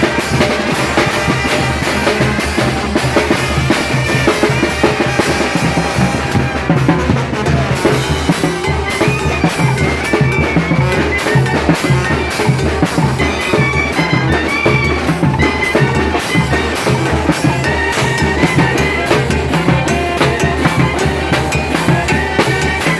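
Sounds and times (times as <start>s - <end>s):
brass band playing: 0.0s - 22.9s
drums keeping steady beat: 0.0s - 22.9s.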